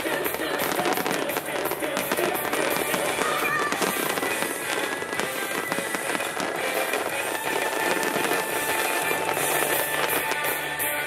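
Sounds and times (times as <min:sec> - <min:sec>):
firework shells bursting: 0:00.0 - 0:11.0
music: 0:00.0 - 0:11.0
rapid crackling fireworks: 0:00.0 - 0:11.0.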